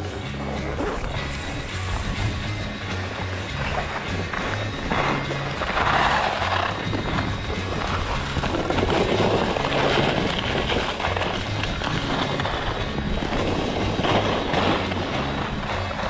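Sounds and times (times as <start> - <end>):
background music with bass: 0.0 - 16.0
skis scraping over packed snow: 0.0 - 16.0.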